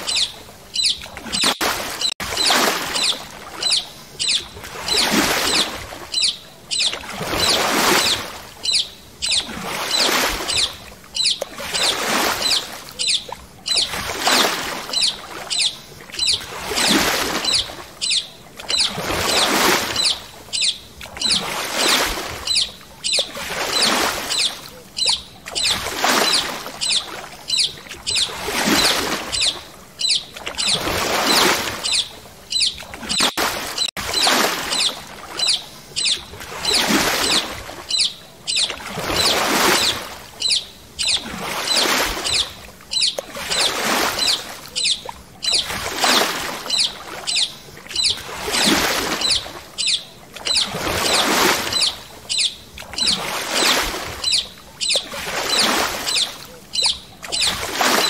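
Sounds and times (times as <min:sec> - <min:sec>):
paddle splashing in water: 0:00.0 - 0:58.0.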